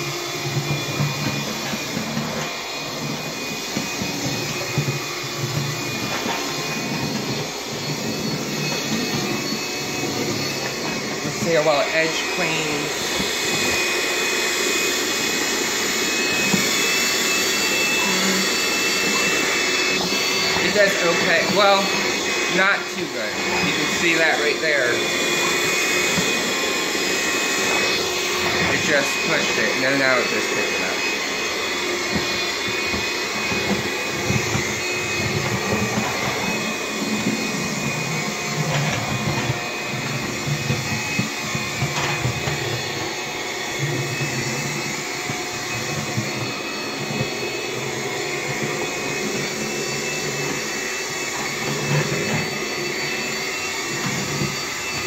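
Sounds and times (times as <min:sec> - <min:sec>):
stick vacuum running: 0:00.0 - 0:55.0.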